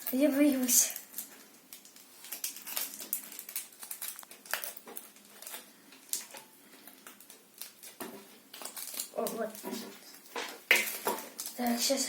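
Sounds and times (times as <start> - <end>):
plastic packaging crinkling and clicking: 0.0 - 12.0.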